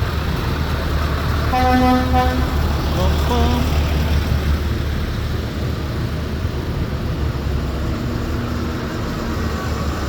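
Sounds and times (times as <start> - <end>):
tractor engine rumble: 0.0 - 10.0.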